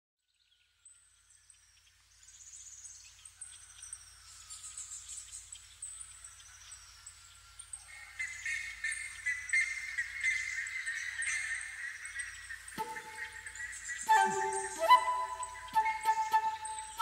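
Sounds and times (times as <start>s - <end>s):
birds chirping and singing: 2.4s - 17.0s.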